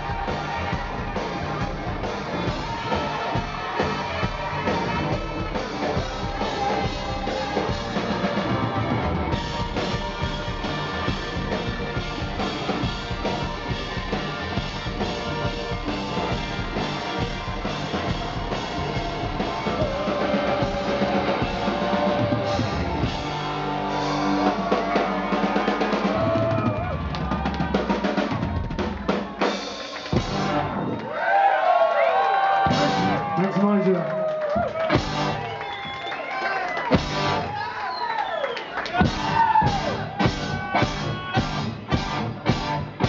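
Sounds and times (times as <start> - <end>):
live rock band playing: 0.0 - 31.0, 32.6 - 35.9, 36.8 - 37.6, 38.8 - 43.0.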